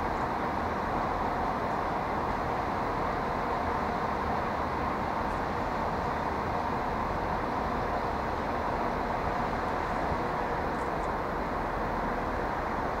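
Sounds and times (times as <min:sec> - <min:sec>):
railway station rumble and hum: 0:00.0 - 0:13.0.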